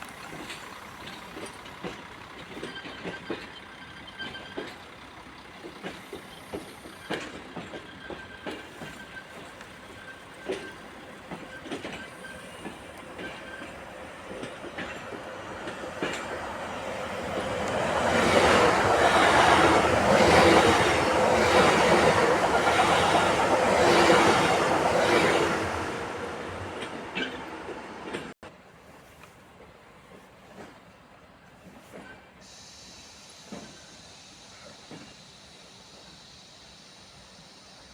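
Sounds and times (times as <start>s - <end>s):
train wheels clattering on rails: 0.0s - 28.4s, 29.6s - 37.7s.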